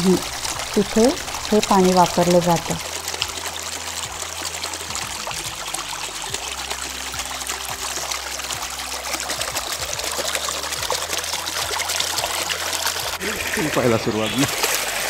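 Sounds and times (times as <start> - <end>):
water trickling in a channel: 0.0 - 15.0.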